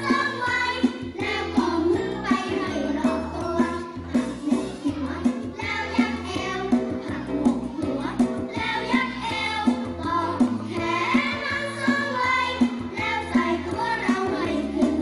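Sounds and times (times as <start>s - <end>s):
music with steady beat: 0.0s - 15.0s
voices singing children's jingle: 0.0s - 15.0s.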